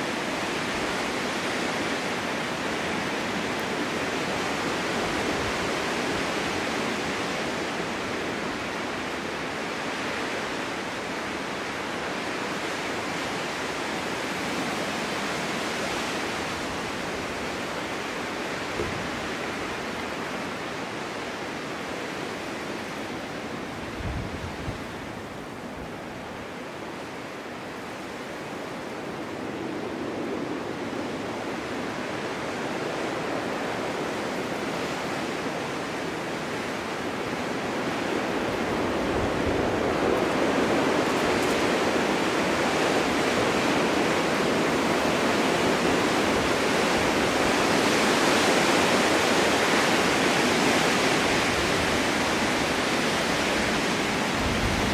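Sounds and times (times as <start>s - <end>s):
snowstorm wind rushing: 0.0s - 54.9s.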